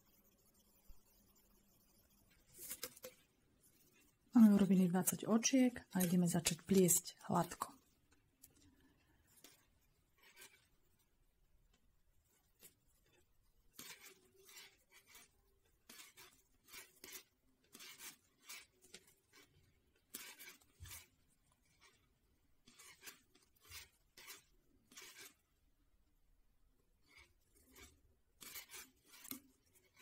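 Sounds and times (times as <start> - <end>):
knitting needles scratching yarn: 0.0 - 25.8, 26.8 - 30.0.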